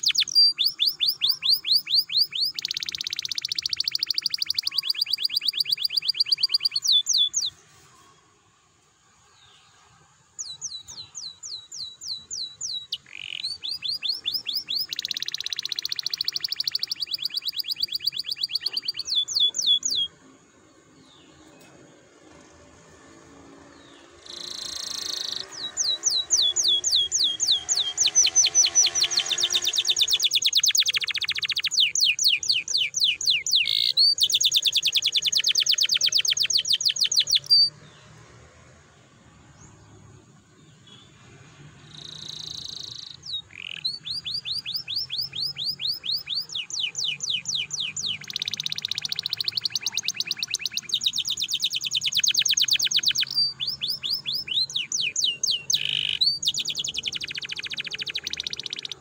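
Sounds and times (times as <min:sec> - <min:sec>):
canary singing trills: 0:00.0 - 0:08.1, 0:10.4 - 0:22.0, 0:22.8 - 0:38.2, 0:39.4 - 0:59.0.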